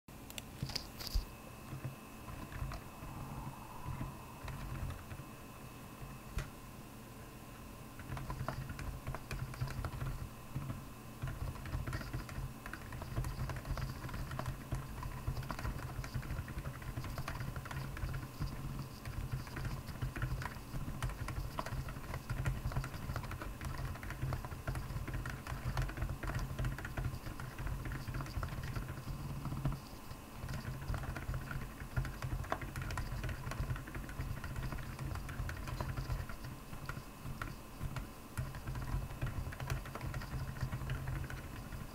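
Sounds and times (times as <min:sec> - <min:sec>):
fast typing on mechanical keyboard: 0:01.7 - 0:03.2, 0:04.0 - 0:05.2, 0:08.0 - 0:41.9.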